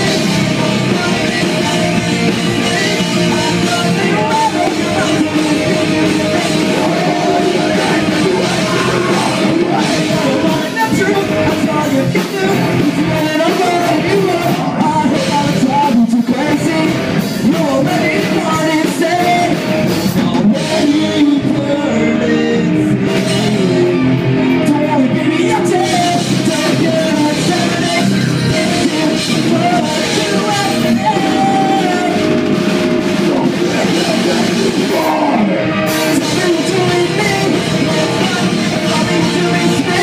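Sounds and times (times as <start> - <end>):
live rock band playing: 0.0 - 40.0
person singing: 0.0 - 40.0.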